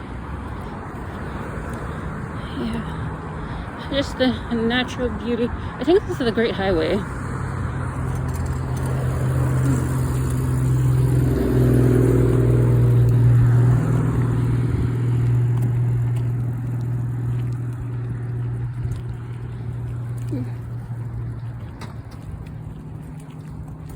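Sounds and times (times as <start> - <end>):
vehicle engine passing: 0.0 - 23.9.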